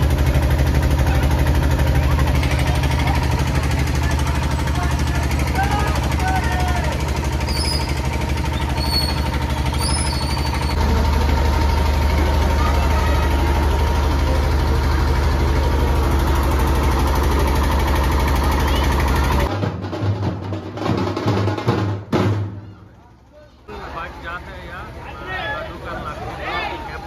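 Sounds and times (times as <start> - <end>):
truck engine idling: 0.0 - 19.5, 22.8 - 27.0.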